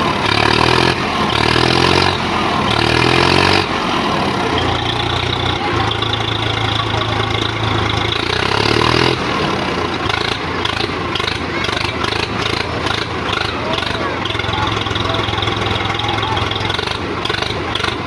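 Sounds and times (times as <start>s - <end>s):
diesel tractor engine running hard: 0.0s - 18.0s.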